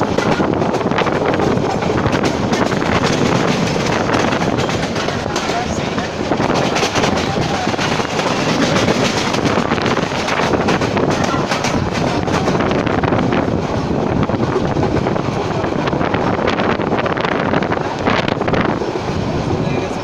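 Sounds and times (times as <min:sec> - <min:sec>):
train rumbling and clacking: 0:00.0 - 0:20.0
wind buffeting microphone: 0:00.0 - 0:20.0.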